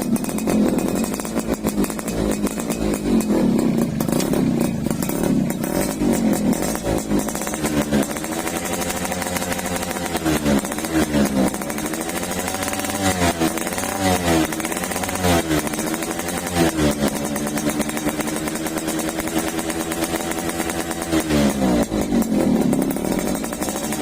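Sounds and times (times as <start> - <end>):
moped engine idling and revving: 0.0 - 24.0.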